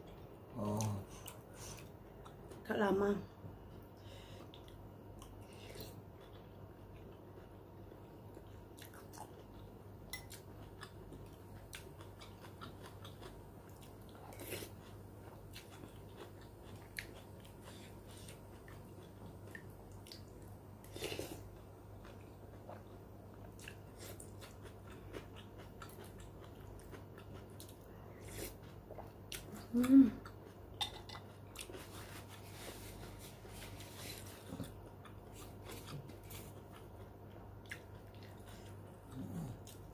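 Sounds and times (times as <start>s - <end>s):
woman chewing: 4.5s - 39.9s.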